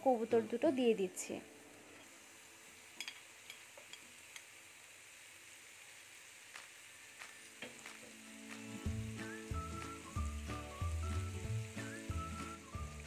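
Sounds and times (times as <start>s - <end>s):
paste sizzling in a pan: 0.0s - 13.0s.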